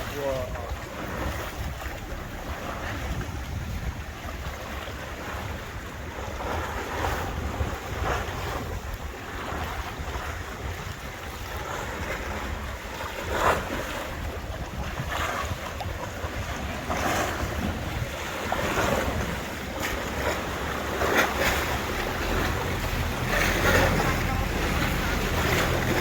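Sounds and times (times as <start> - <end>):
boat engine rumble: 0.0 - 26.0
water splashing past hull: 0.0 - 26.0
wind buffeting microphone: 0.0 - 26.0.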